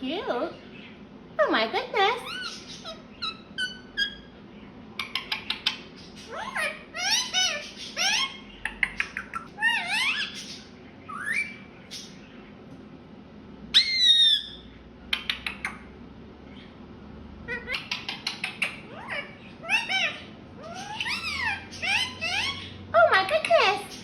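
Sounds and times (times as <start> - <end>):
parrot chattering and squawking: 1.6 - 12.2, 13.7 - 16.7, 17.4 - 24.0.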